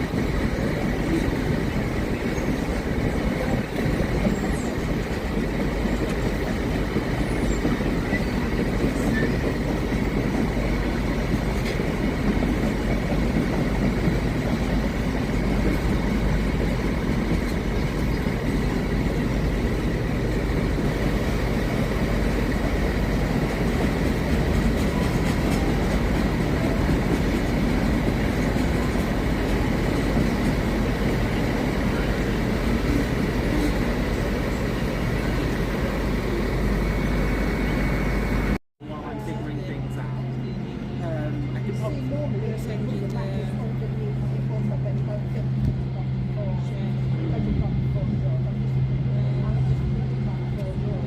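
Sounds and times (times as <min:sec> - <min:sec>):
train rumbling past: 0:00.0 - 0:51.0.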